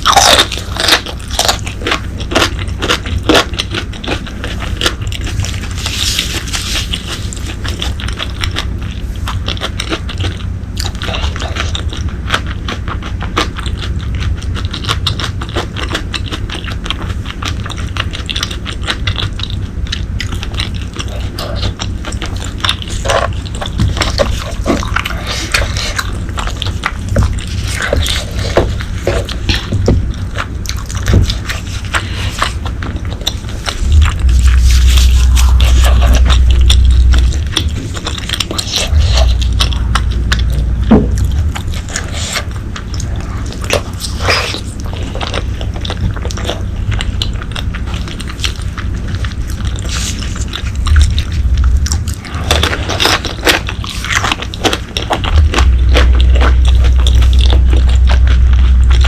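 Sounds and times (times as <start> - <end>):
steady low hum: 0.0 - 59.0
wet chewing and mouth sounds: 0.0 - 59.0.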